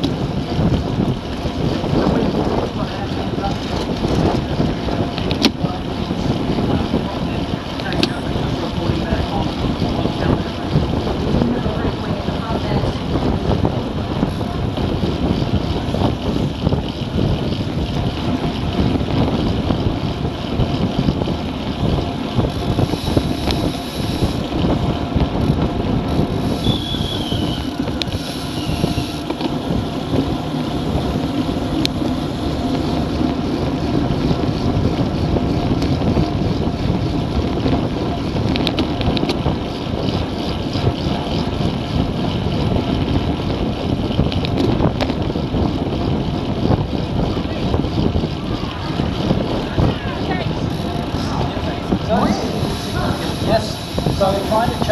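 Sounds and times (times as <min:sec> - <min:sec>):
road and tyre noise: 0:00.0 - 0:54.9
wind buffeting microphone: 0:00.0 - 0:54.9.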